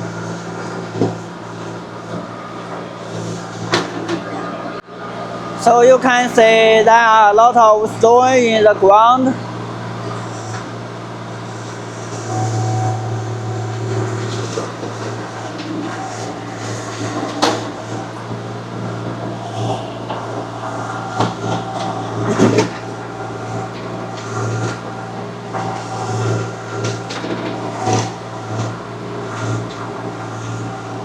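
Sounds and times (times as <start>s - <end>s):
digger engine running under load: 0.0s - 31.0s.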